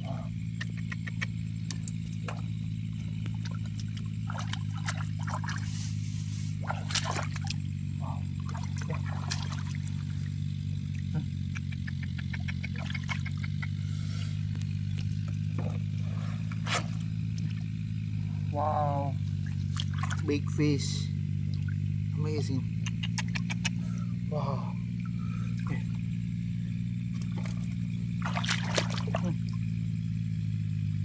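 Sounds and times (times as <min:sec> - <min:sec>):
water splashing and trickling: 0:00.0 - 0:11.5, 0:12.2 - 0:18.4, 0:19.1 - 0:23.7, 0:24.5 - 0:30.8
steady low hum: 0:00.0 - 0:31.0.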